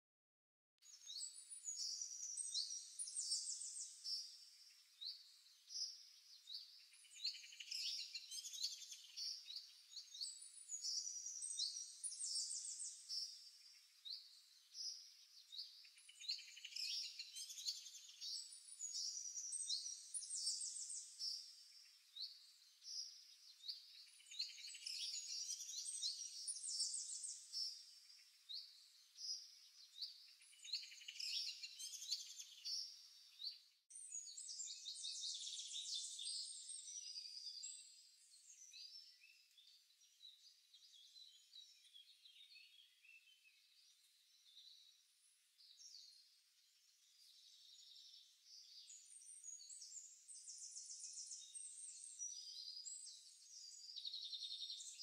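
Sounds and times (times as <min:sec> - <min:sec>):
songbirds chirping and trilling: 0:00.8 - 0:55.0.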